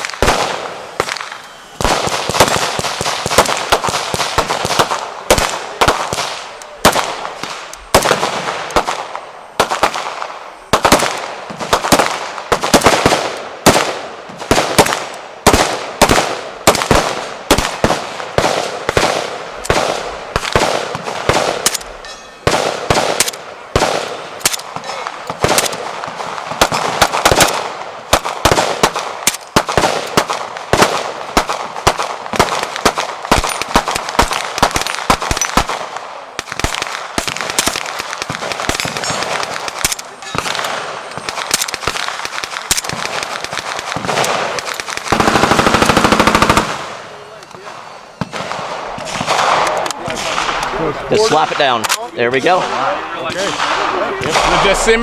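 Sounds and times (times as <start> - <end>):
gunshots with ringing echo: 0.0 - 55.0.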